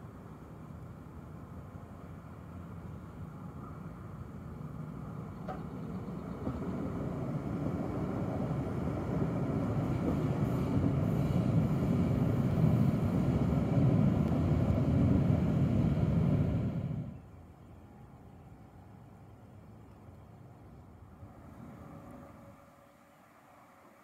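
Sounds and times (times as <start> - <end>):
train passing on tracks: 0.0 - 19.5, 20.3 - 24.0.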